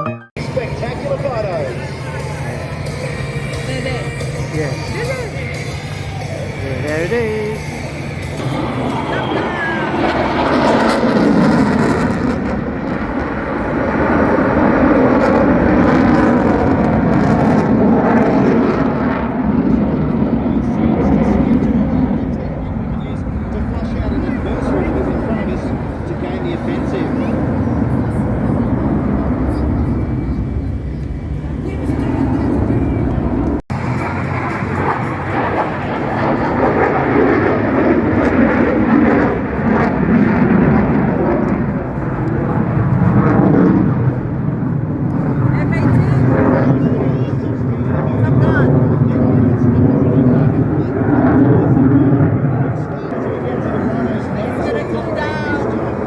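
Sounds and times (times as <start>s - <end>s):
aircraft engine rush: 0.3s - 56.0s.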